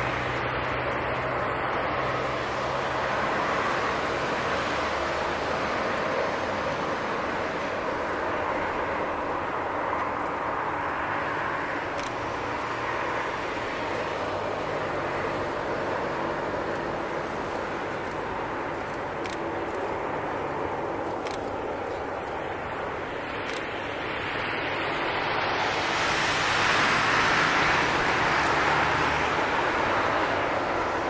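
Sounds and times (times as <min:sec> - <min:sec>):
jet airliner taxiing: 0:00.0 - 0:31.0.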